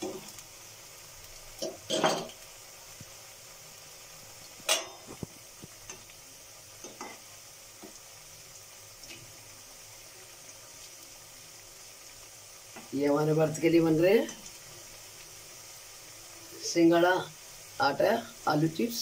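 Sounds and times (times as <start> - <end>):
potatoes deep-frying in oil: 0.0 - 19.0.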